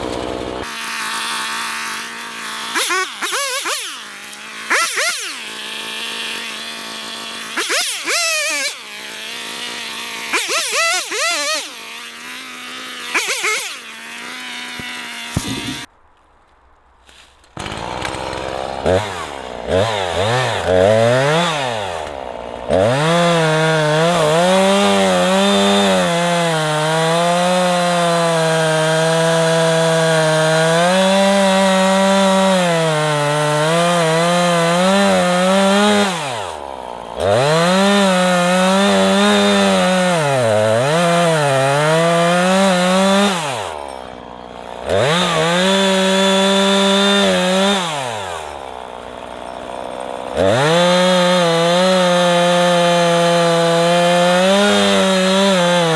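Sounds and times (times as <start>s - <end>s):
two-stroke chainsaw cutting wood: 0.0s - 15.9s, 17.4s - 55.9s.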